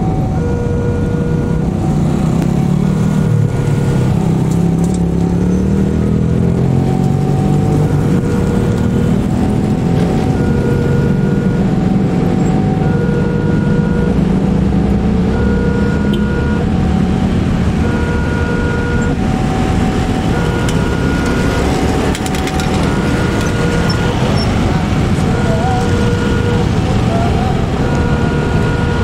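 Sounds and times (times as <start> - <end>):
level crossing two-tone alarm: 0.0 - 2.4, 6.4 - 14.2, 15.2 - 29.0
low engine rumble: 0.0 - 29.0.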